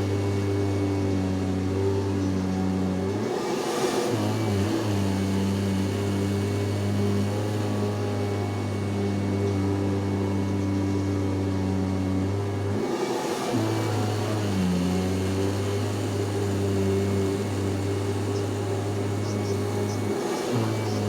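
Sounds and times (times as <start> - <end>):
vacuum cleaner motor hum: 0.0 - 21.0.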